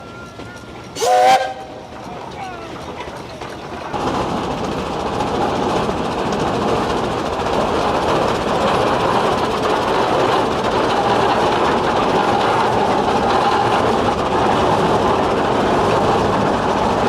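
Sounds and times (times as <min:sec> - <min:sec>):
steam traction engine running: 0:00.0 - 0:17.0.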